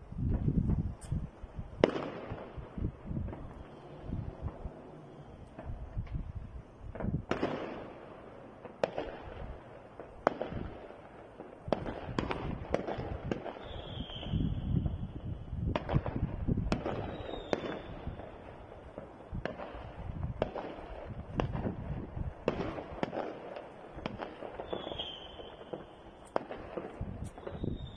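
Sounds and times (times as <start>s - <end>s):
firework whistles: 0.0s - 8.0s, 11.7s - 27.9s
firework bangs and cracks: 0.2s - 27.9s.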